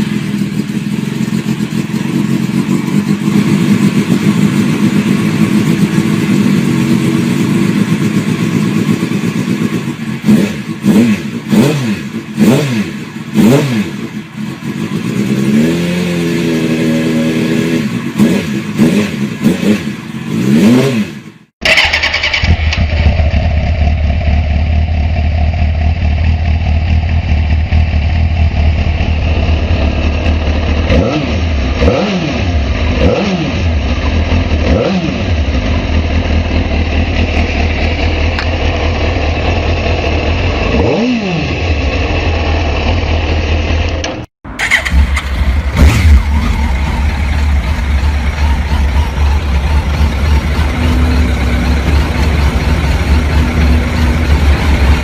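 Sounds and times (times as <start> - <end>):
motorcycle engine idling: 0.0 - 15.6, 21.6 - 31.9, 32.5 - 40.9, 41.5 - 55.0
motorcycle engine revving: 0.0 - 55.0.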